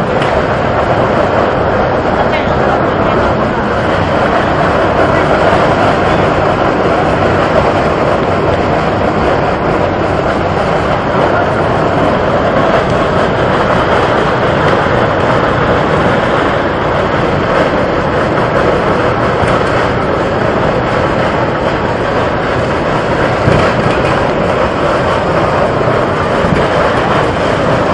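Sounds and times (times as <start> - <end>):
mud and water jetting: 0.0 - 27.9.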